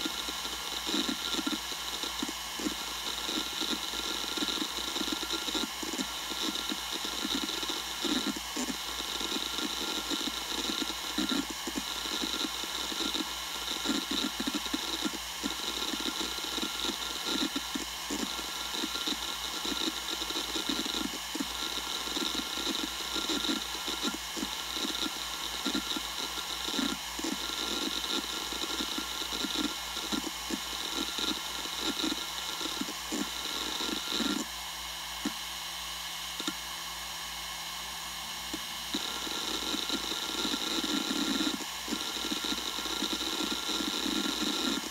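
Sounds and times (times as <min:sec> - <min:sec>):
hard drive seek clicks: 0:00.0 - 0:36.8, 0:38.4 - 0:44.9
hard drive high whine: 0:00.0 - 0:44.9.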